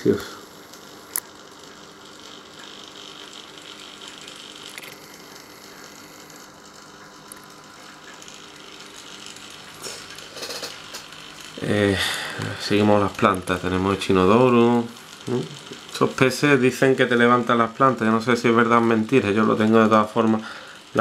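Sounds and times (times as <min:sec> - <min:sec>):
aquarium equipment hum and hiss: 0:00.0 - 0:21.0.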